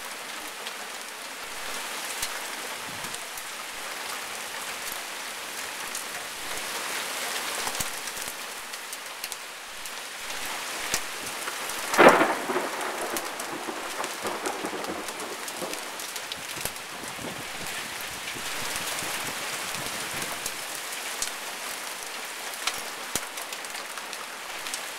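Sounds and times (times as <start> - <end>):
rain falling steadily: 0.0 - 24.9.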